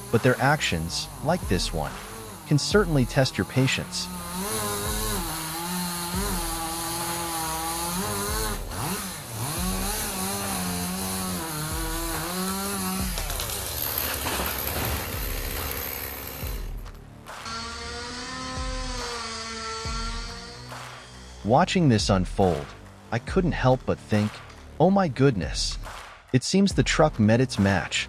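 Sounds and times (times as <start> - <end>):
chainsaw cutting at high revs: 0.0 - 21.5, 22.4 - 24.8
rough noise: 0.0 - 24.8.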